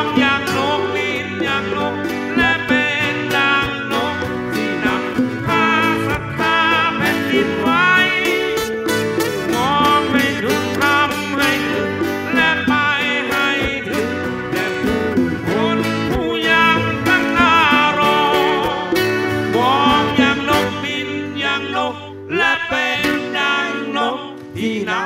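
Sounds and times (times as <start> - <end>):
acoustic guitars: 0.0 - 25.0
keyboard: 0.0 - 25.0
sliding melody line: 0.0 - 25.0.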